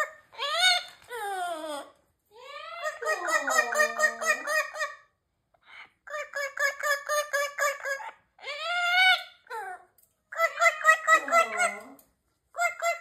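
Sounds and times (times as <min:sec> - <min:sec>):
parrot calling: 0:00.0 - 0:13.0.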